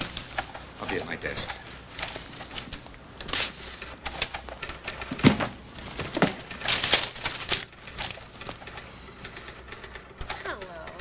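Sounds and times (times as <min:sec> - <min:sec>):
papers rustling: 0:00.0 - 0:09.8.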